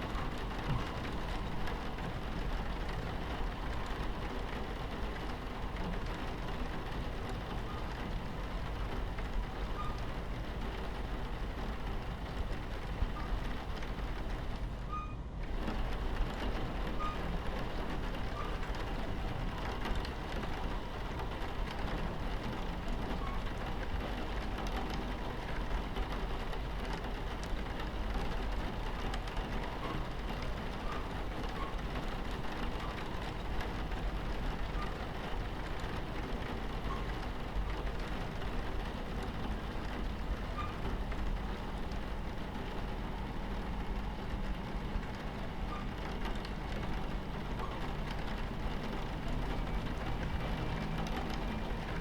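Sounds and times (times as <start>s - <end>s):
moving train rumble: 0.0s - 52.0s
rain pattering on window: 0.0s - 52.0s.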